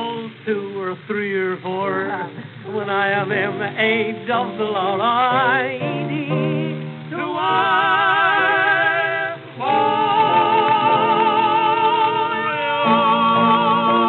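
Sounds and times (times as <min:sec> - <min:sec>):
old ragtime song record: 0:00.0 - 0:14.0.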